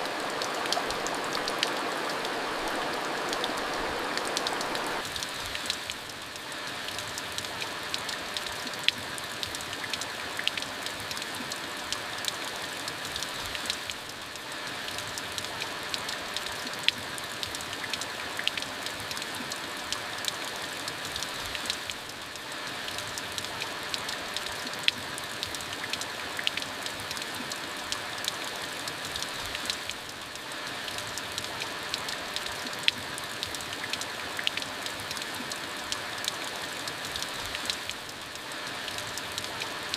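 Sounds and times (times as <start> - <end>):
raindrops ticking on hard surface: 0.0 - 39.9
steady rain falling: 0.0 - 39.9.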